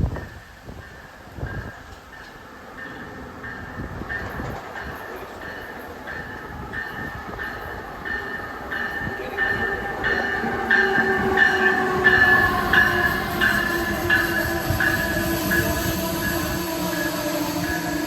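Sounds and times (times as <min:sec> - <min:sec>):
passenger train on rails: 0:00.0 - 0:18.0.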